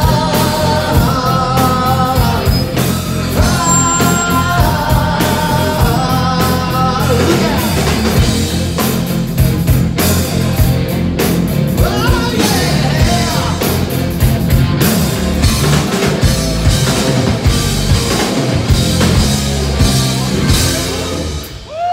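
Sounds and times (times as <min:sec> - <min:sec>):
live hard rock band: 0:00.0 - 0:21.9.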